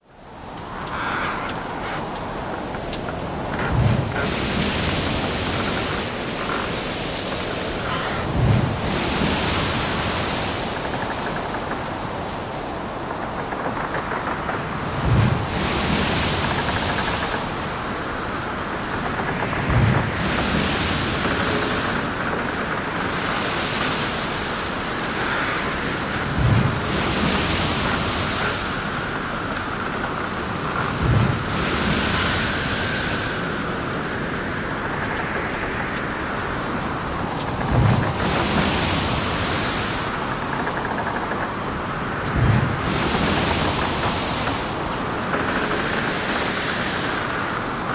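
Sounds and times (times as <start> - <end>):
wind and water rushing: 0.0 - 47.9
waves striking with low thuds: 0.3 - 47.9.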